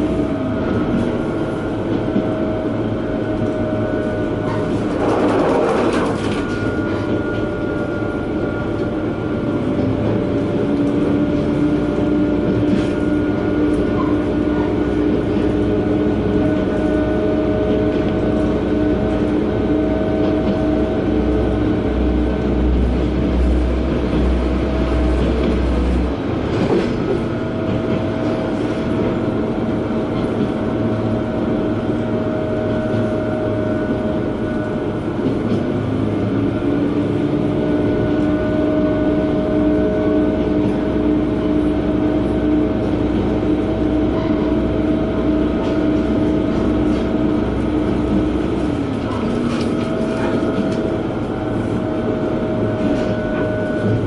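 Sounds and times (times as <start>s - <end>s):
diesel railcar engine drone: 0.0s - 54.0s.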